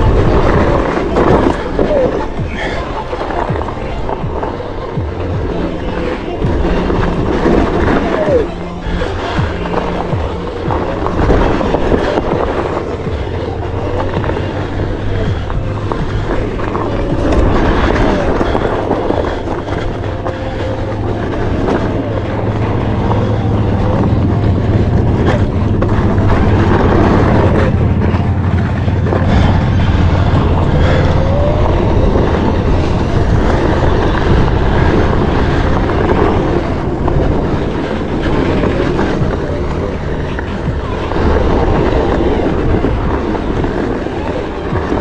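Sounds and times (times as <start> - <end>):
wind and tyre rumble: 0.0 - 45.0.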